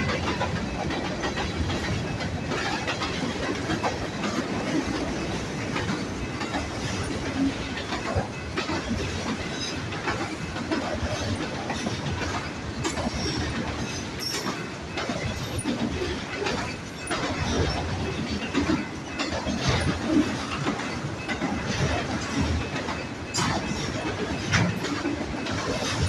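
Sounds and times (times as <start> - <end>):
train wheels clacking over rail joints: 0.0 - 26.0.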